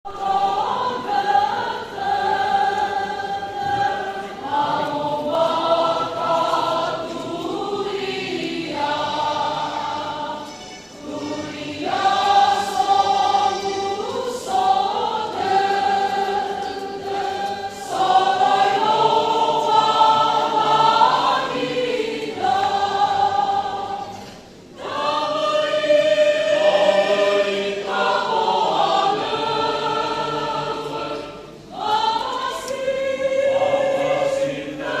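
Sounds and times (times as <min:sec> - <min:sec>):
choir singing a hymn: 0:00.0 - 0:35.0.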